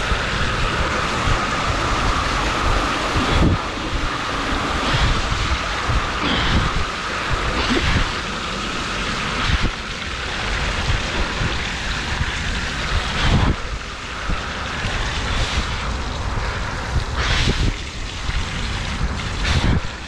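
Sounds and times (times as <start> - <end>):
wheels splashing through water: 0.0 - 20.0
wind buffeting microphone: 0.0 - 20.0.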